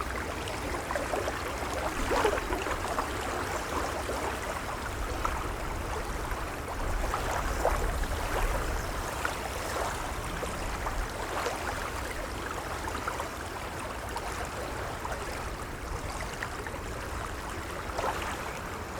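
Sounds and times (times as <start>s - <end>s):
gentle waves lapping: 0.0s - 18.9s.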